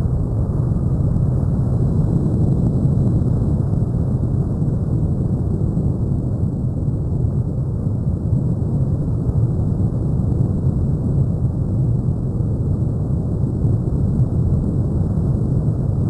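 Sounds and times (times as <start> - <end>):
wind and airflow rush: 0.0 - 16.0.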